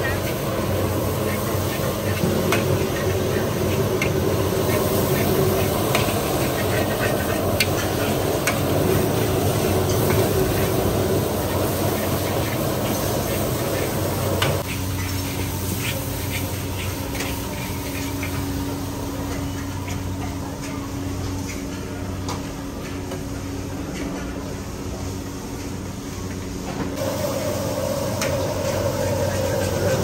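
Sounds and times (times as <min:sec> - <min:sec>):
cooking equipment humming: 0:00.0 - 0:30.0.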